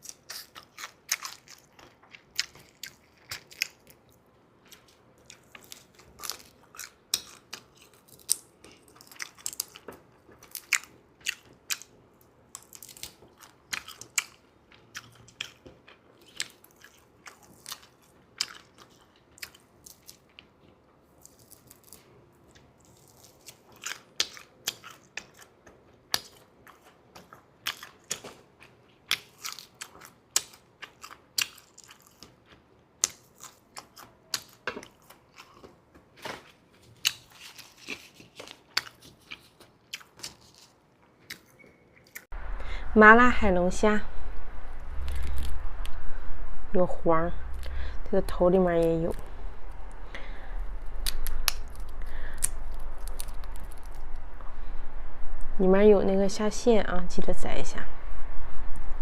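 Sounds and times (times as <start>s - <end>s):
person chewing crunchy food: 0.0s - 42.3s, 44.9s - 45.9s, 48.7s - 54.7s.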